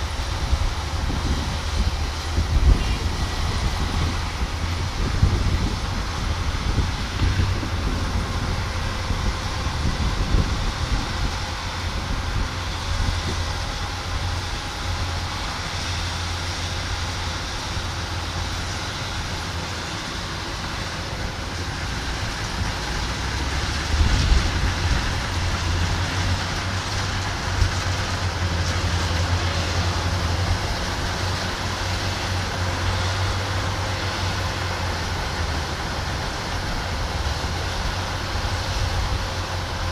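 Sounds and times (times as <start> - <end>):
combine harvester engine hum: 0.0 - 39.9
rushing machinery noise: 0.0 - 39.9.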